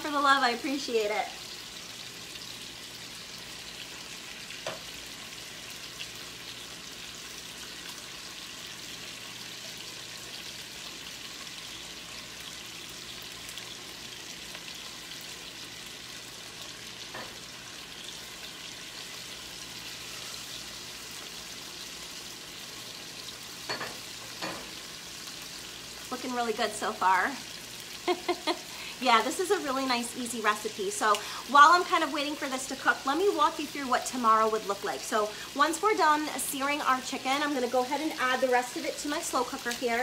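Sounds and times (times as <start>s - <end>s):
chicken sizzling in skillet: 0.0s - 40.0s.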